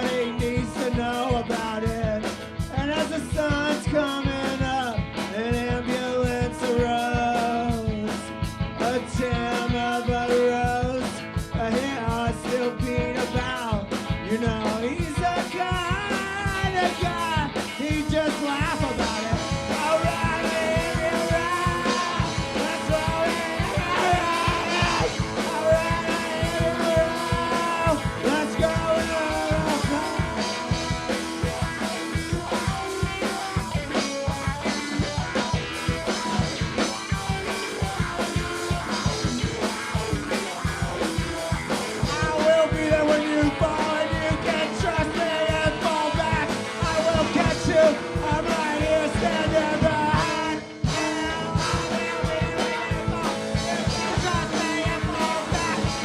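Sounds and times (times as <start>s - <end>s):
electric guitars: 0.0s - 56.0s
person singing: 0.0s - 56.0s
steady drumbeat: 0.0s - 56.0s.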